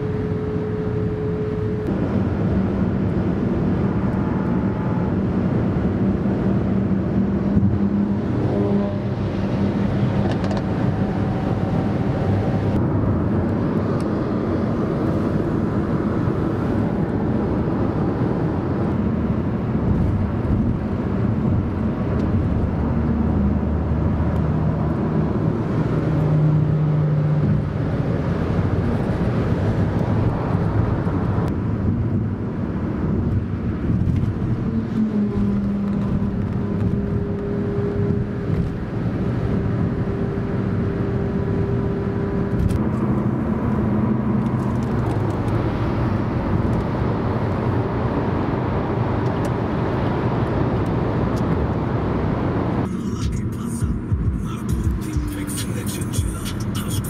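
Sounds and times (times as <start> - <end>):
road and wind noise in car: 0.0 - 57.0
sports car engines passing: 0.0 - 57.0.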